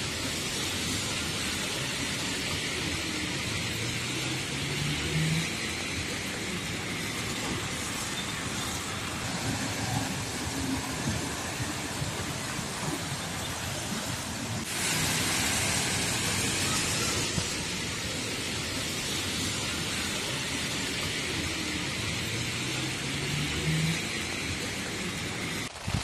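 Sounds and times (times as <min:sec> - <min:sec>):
rain on a road: 0:00.0 - 0:26.0.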